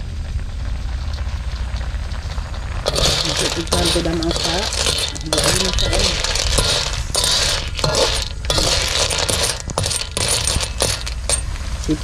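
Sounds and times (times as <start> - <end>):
snail shells clattering and scraping: 1.1 - 11.6.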